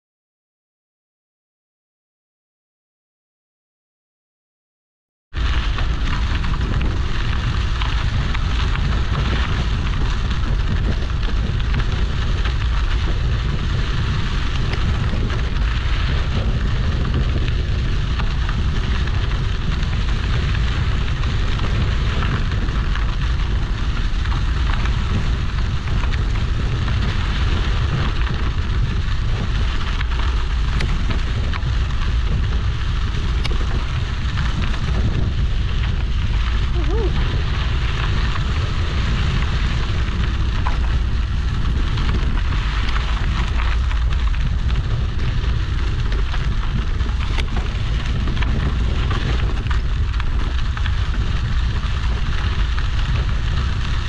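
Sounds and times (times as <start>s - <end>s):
tyres rolling on dirt: 5.4s - 54.0s
wind rumble on microphone: 5.4s - 54.0s.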